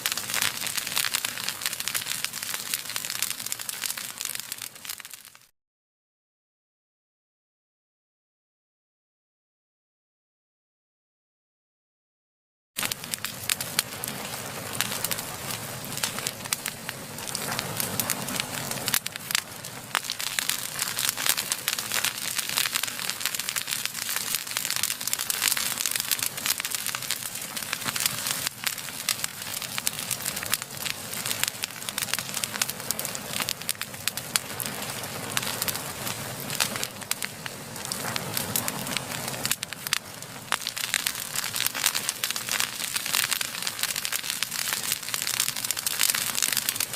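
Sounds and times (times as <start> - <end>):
low rushing of flame: 0.0 - 5.2, 12.8 - 46.9
wood fire crackling and popping: 0.0 - 5.5, 12.8 - 46.9.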